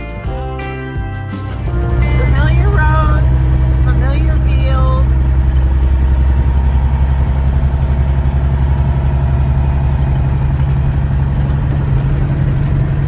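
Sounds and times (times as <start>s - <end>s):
truck engine drone: 1.3s - 13.0s
road noise: 1.4s - 13.0s.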